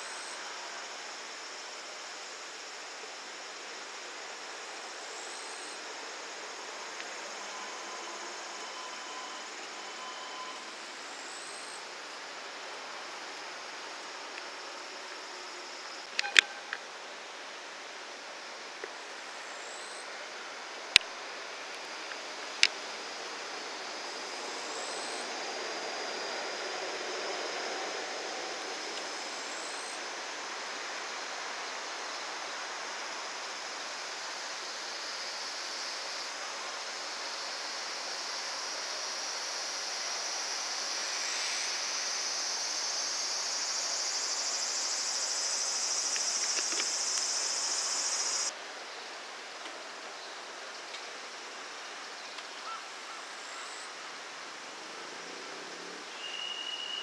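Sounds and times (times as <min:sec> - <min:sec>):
high insect drone: 0:00.0 - 0:49.2, 0:51.2 - 0:57.0.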